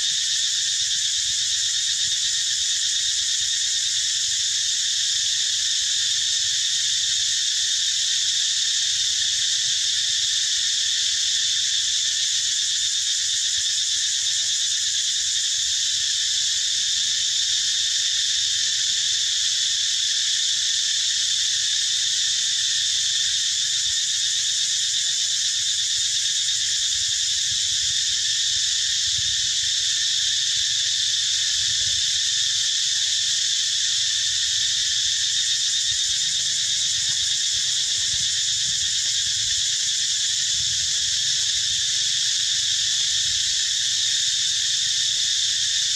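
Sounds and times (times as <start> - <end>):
insects buzzing: 0.0 - 45.9.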